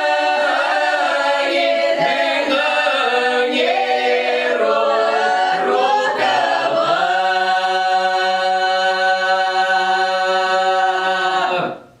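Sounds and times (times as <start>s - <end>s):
folk choir singing a cappella: 0.0s - 12.0s.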